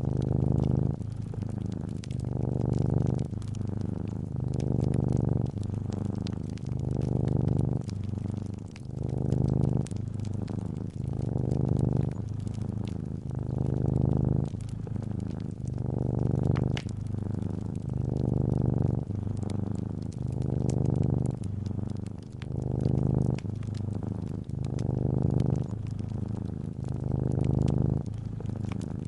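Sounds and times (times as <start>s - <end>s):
cat purring: 0.0s - 29.0s
wood fire crackling: 0.0s - 29.0s.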